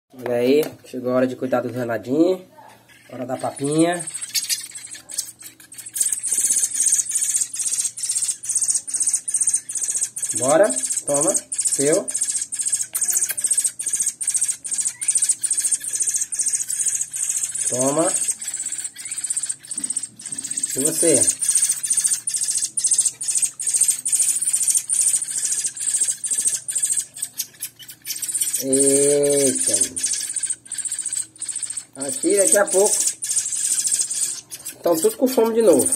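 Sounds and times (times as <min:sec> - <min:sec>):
nestlings begging calls: 0:02.8 - 0:35.9.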